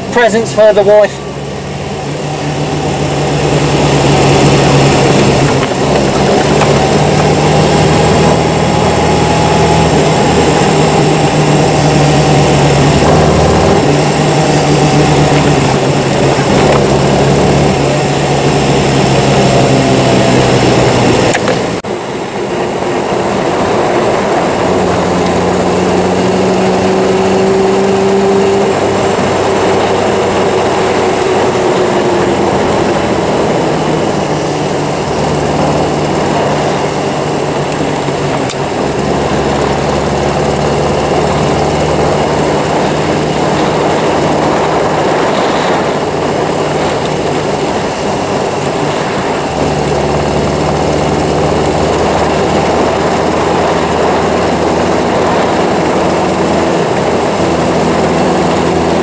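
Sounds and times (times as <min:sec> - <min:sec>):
car engine running: 0:00.0 - 0:59.0
road noise: 0:00.0 - 0:59.0.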